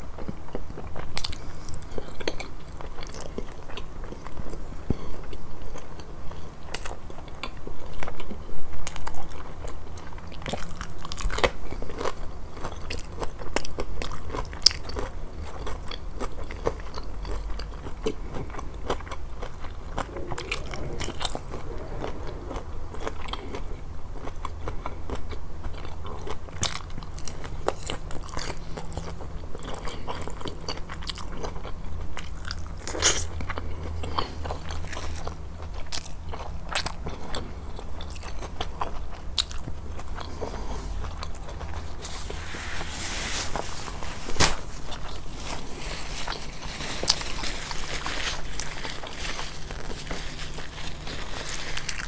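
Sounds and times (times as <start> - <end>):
chewing and biting food: 0.1 - 42.9, 43.5 - 52.0.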